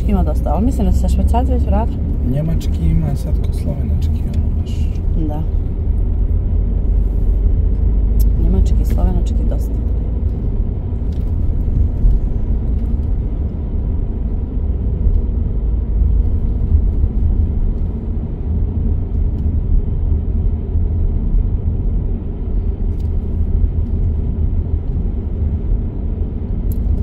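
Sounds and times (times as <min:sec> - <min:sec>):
car engine rumble: 0:00.0 - 0:27.0
road noise: 0:00.0 - 0:27.0.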